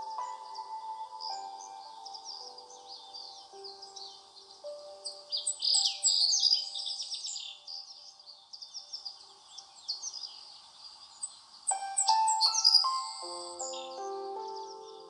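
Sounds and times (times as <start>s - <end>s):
small birds chirping: 0.0s - 15.0s
soft background music: 0.0s - 15.0s.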